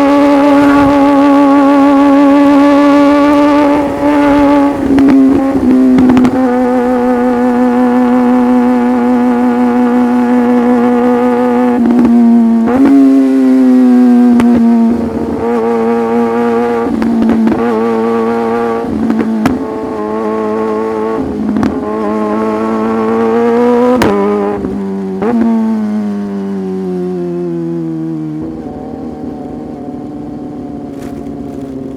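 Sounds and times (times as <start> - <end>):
motorcycle engine: 0.0 - 31.9.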